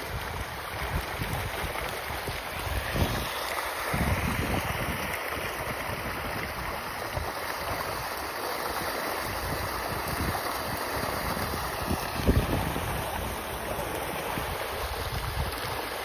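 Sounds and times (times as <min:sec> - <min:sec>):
wind buffeting microphone: 0:00.0 - 0:08.2, 0:08.8 - 0:16.0
fish splashing at water surface: 0:00.0 - 0:16.0.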